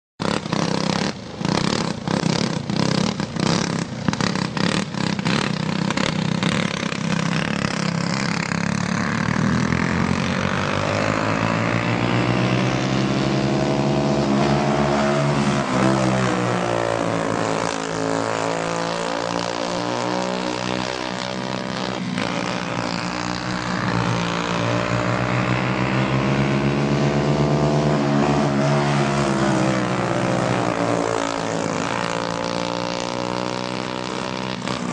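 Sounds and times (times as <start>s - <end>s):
racing kart engines droning: 0.2s - 34.9s.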